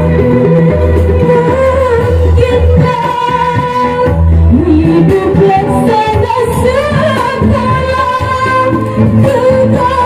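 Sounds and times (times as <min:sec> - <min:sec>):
live band with keyboard and drums: 0:00.0 - 0:10.0
woman singing through a pa: 0:00.9 - 0:10.0.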